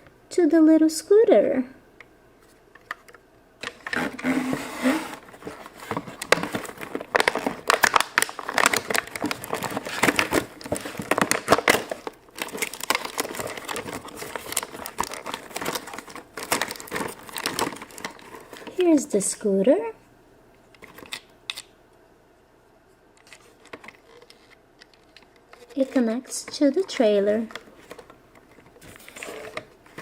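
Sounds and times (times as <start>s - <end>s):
packaging crinkling and rustling: 2.4s - 18.9s, 20.8s - 21.7s, 23.2s - 30.0s.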